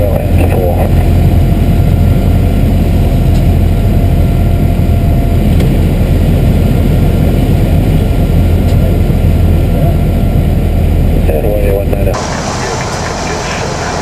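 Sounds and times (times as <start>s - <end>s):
plane engine and propeller drone: 0.0s - 14.0s.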